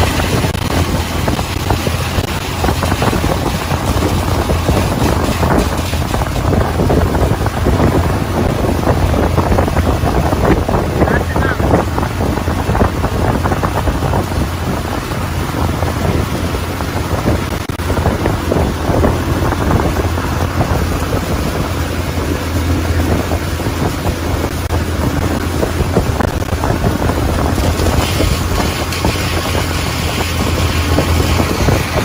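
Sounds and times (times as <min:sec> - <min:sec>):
motorboat engine drone: 0:00.0 - 0:32.0
wake water rushing: 0:00.0 - 0:32.0
wind buffeting microphone: 0:00.0 - 0:32.0.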